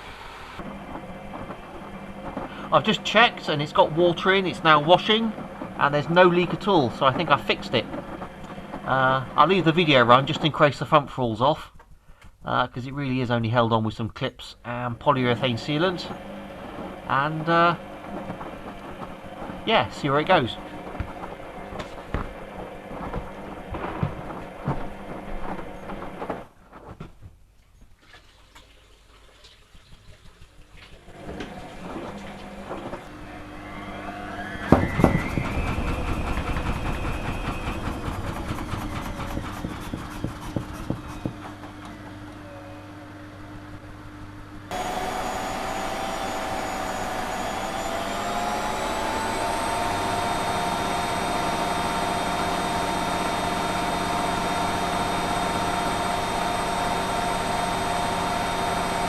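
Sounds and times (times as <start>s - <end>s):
washing machine motor whirring: 0.0s - 11.0s, 14.8s - 26.6s, 30.0s - 59.0s.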